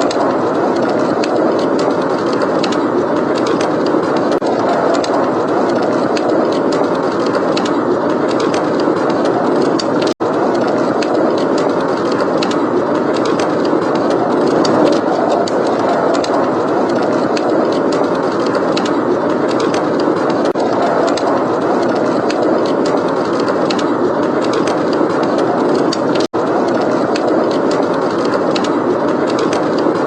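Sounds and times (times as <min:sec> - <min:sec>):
blizzard wind blowing: 0:00.0 - 0:30.0
wood fire crackling: 0:00.0 - 0:30.0.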